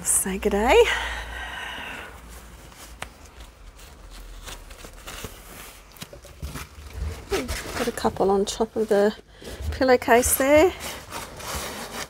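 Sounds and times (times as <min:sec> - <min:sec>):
cloth gloves rustling: 0:02.1 - 0:12.0.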